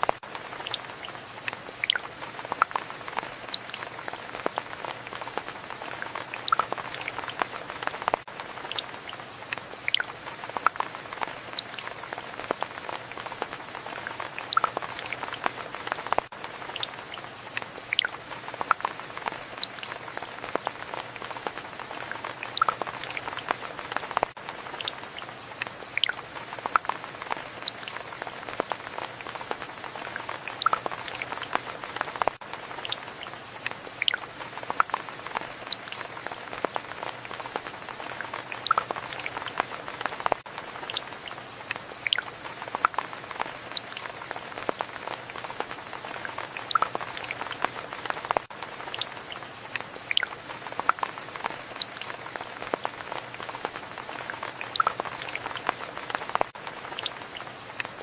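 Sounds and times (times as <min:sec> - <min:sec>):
raindrops ticking on surfaces: 0:00.0 - 0:58.0
steady rain hiss: 0:00.0 - 0:58.0.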